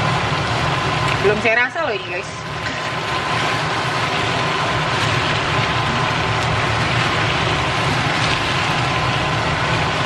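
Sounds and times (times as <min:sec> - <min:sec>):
chicken sizzling in a wok: 0:00.0 - 0:10.0.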